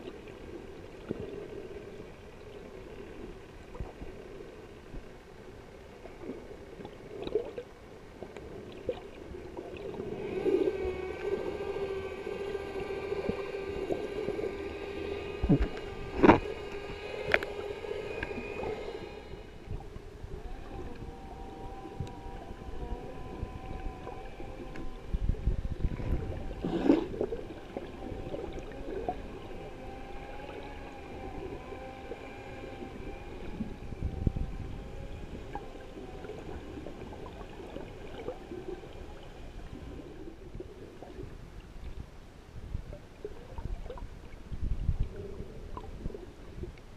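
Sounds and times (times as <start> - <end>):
boat motor whine underwater: 0.0 - 46.9.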